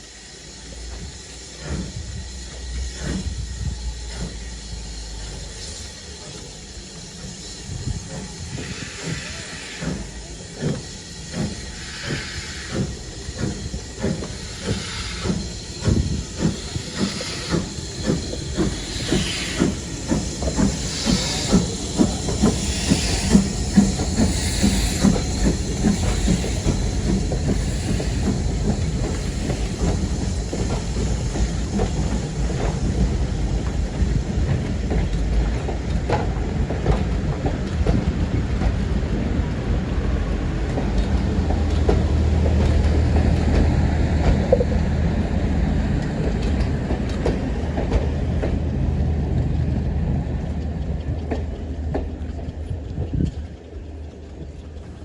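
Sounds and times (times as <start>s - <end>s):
steam hiss: 0.0s - 48.2s
steam locomotive exhaust beats: 0.0s - 55.0s
train rumbling on rails: 0.0s - 55.0s.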